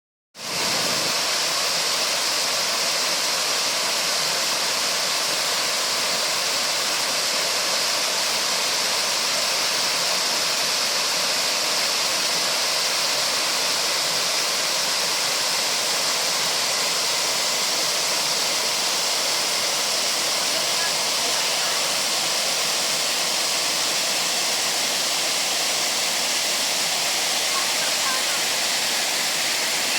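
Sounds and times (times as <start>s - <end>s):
waterfall rushing: 0.4s - 29.9s.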